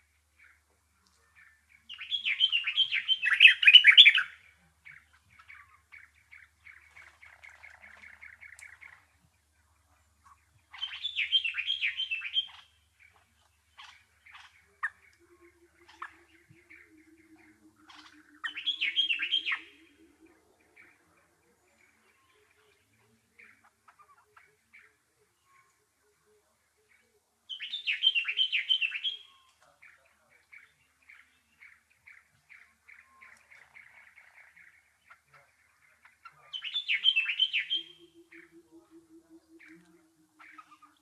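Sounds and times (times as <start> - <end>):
songbird chattering: 0.4 - 25.9, 26.8 - 41.0.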